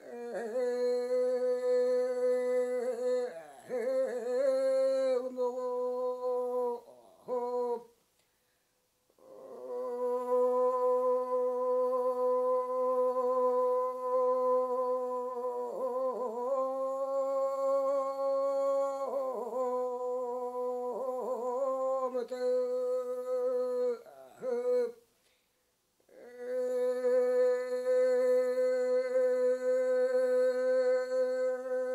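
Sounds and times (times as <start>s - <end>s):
person singing solo unaccompanied: 0.0s - 8.3s, 9.1s - 25.1s, 26.0s - 31.9s.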